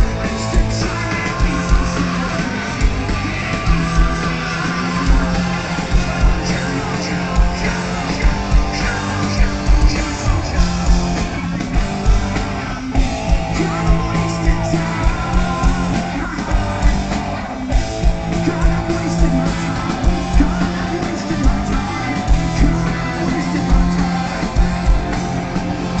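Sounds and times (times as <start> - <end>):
drum beat: 0.0 - 26.0
guitar: 0.0 - 26.0
person singing: 0.0 - 26.0.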